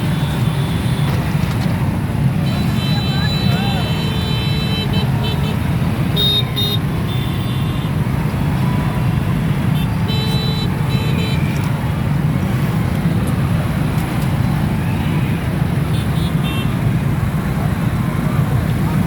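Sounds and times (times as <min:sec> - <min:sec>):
traffic engines idling: 0:00.0 - 0:19.0.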